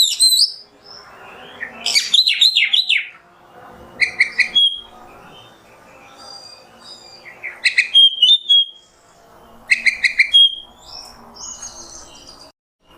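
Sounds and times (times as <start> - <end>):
bird song phrases with whistle: 0.0 - 3.2, 4.0 - 8.9, 9.7 - 12.5.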